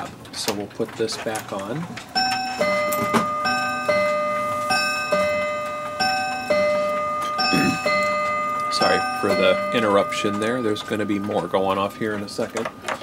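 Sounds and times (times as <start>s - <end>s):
clock striking two-note chime: 2.1s - 13.0s.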